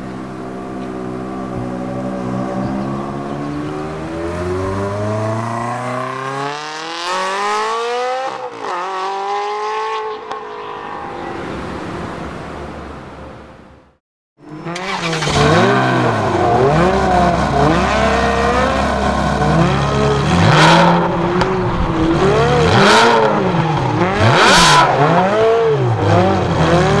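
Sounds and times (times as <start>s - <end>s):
car engine revving: 0.0s - 13.2s, 14.4s - 27.0s.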